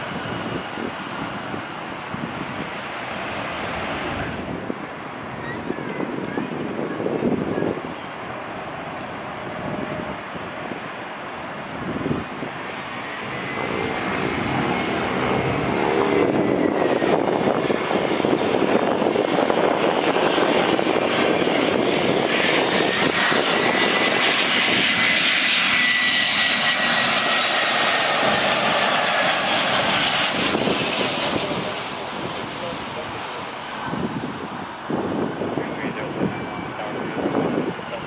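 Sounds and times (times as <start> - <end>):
high engine whine: 0.0 - 38.0
jet airliner landing: 0.0 - 38.0.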